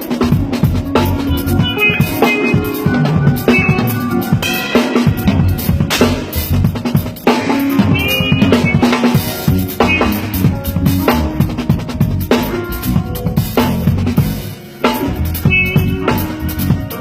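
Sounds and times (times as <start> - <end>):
band music with bass line: 0.0 - 17.0
drum kit groove: 0.0 - 17.0.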